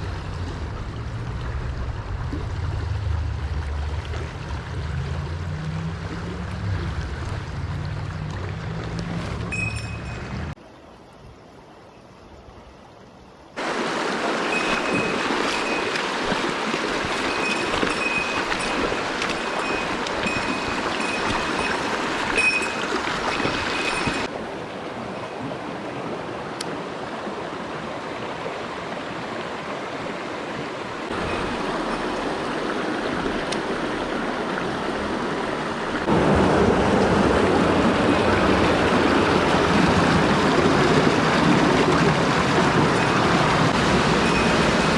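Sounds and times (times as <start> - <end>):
stream water rushing: 0.0 - 44.9.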